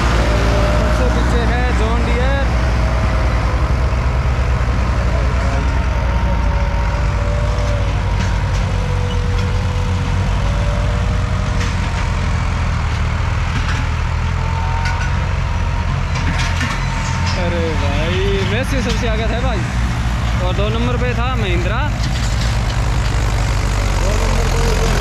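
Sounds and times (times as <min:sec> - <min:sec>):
tractor engines droning: 0:00.0 - 0:25.0.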